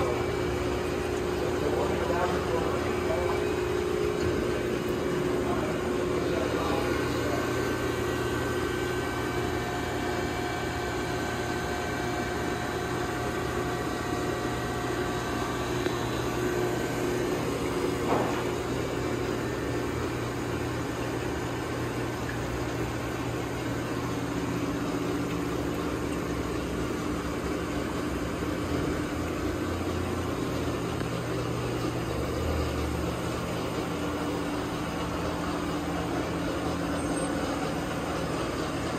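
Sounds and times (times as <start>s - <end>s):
shop machinery humming: 0.0s - 38.9s.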